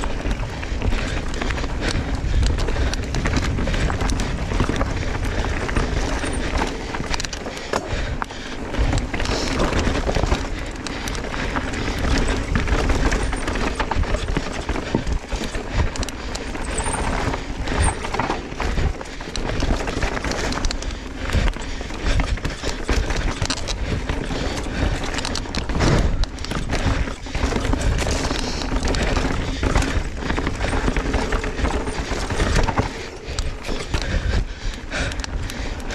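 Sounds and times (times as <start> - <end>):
bike tyres on dirt trail: 0.0 - 35.9.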